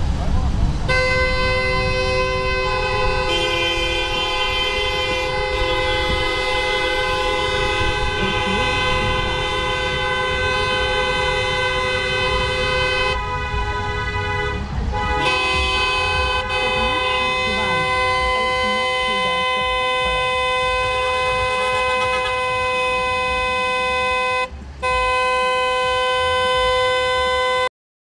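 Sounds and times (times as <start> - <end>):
engine rumble and road noise: 0.0 - 27.7
vehicle horns blaring: 0.9 - 27.7.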